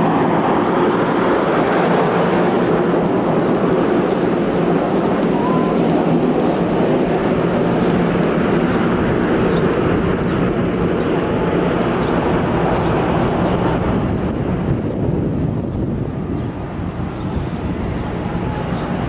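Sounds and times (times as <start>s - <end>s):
loud roar of engines: 0.0s - 19.0s.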